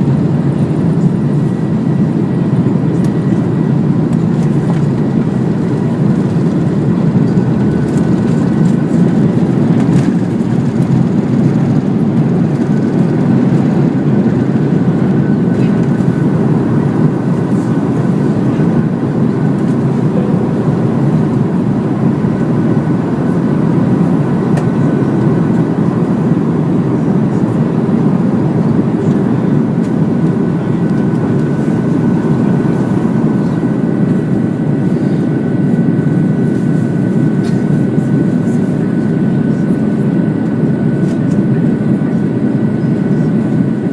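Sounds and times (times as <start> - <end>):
faint jet engine whine: 0.0 - 43.9
jet aircraft engine rumble: 0.0 - 43.9.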